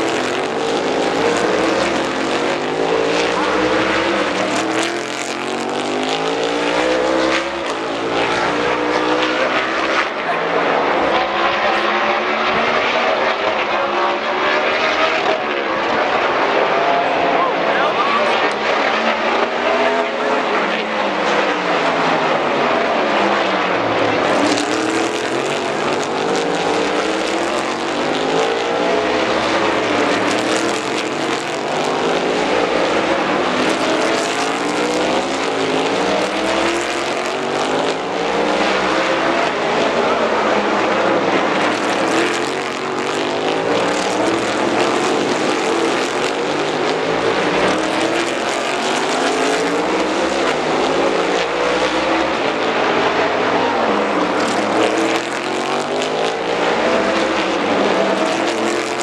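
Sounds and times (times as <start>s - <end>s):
race car engines braking and accelerating: 0.0s - 58.9s.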